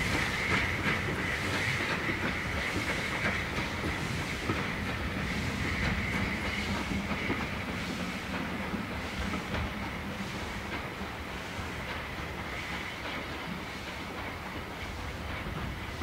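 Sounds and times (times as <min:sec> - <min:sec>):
steam hiss: 0:00.0 - 0:16.0
train wheel and rail noise: 0:00.0 - 0:16.0.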